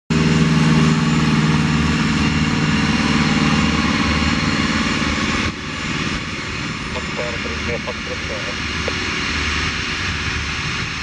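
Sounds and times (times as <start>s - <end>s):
engine idling: 0.1s - 11.0s.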